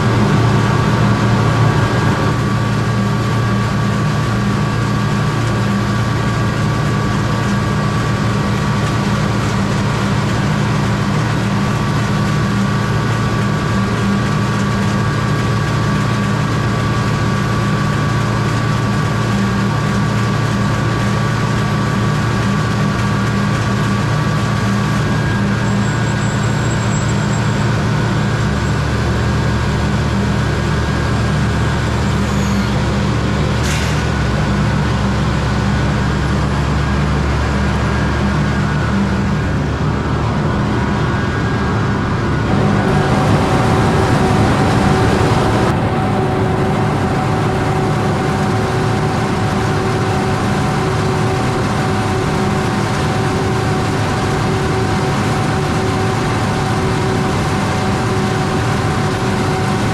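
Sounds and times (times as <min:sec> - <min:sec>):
deeper hum: 0:00.0 - 0:59.9
diesel engine drone: 0:00.0 - 0:59.9
high machinery whine: 0:00.0 - 0:59.9.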